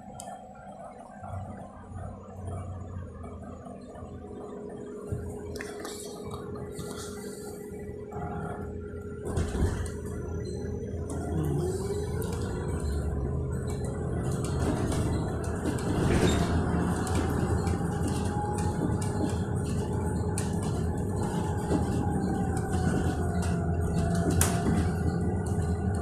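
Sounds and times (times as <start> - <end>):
road rumble: 4.9 - 26.0.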